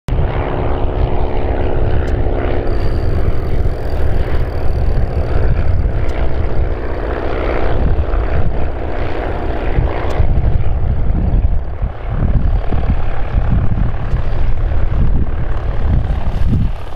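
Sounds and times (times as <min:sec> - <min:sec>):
low rumble: 0:00.1 - 0:16.9
propeller aircraft engine droning: 0:00.1 - 0:16.9.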